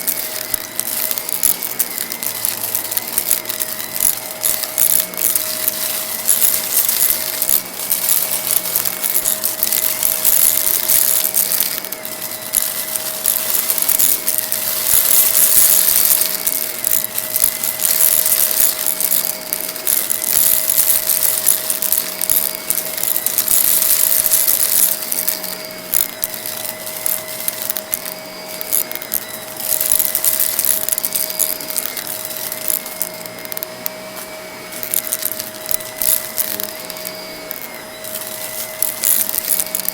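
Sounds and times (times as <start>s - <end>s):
debris crackling in vacuum: 0.0s - 39.9s
vacuum cleaner motor whine: 0.0s - 39.9s.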